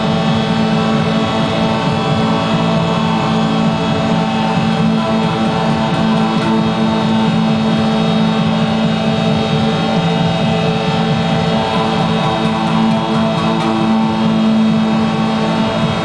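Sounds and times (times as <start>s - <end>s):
dense electronic drone: 0.0s - 16.0s
rough low rumble: 0.0s - 16.0s.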